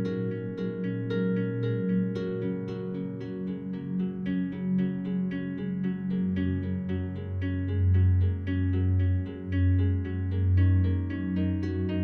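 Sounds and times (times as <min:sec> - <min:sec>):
plucked-string melody: 0:00.0 - 0:12.0.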